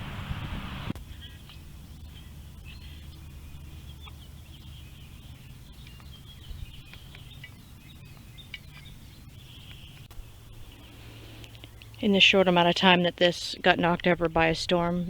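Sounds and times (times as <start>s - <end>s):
steady low hum: 0.0s - 15.0s
birds chirping and trilling: 0.8s - 15.0s.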